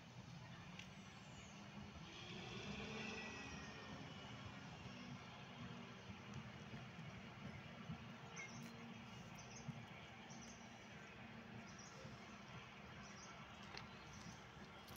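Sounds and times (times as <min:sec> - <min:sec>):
train rumble: 0:00.0 - 0:14.9.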